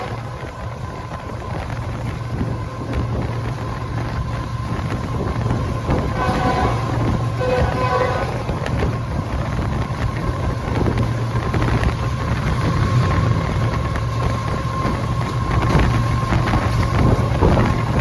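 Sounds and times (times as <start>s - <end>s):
locomotive engine drone: 0.0s - 18.0s
wind on microphone: 0.0s - 18.0s.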